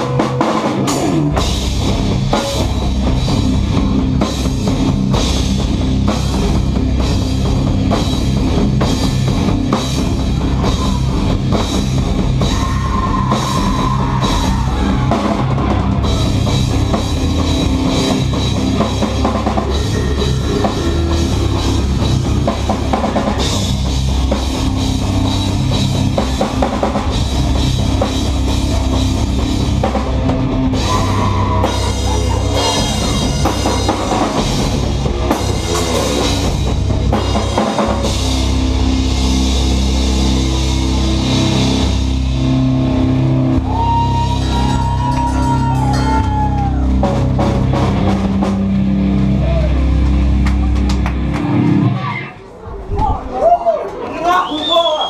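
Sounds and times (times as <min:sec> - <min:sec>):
live rock band playing: 0:00.0 - 0:52.4.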